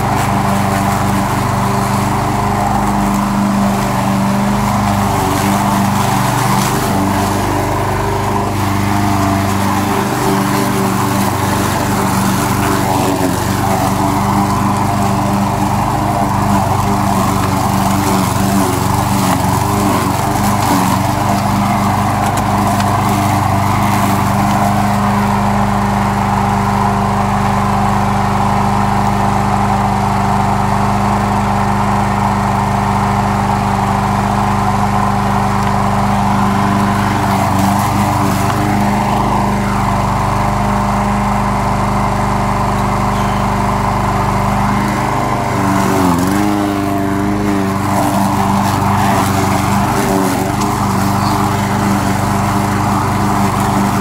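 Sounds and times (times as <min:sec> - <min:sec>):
blade cutting grass: 0:00.0 - 0:54.0
lawn mower engine running: 0:00.0 - 0:54.0.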